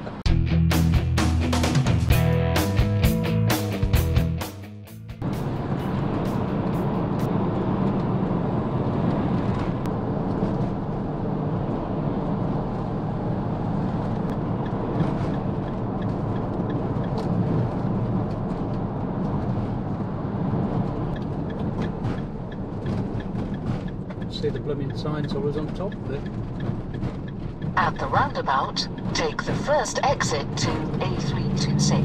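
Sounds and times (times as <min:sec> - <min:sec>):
motorhome road and engine rumble: 0:00.0 - 0:32.0.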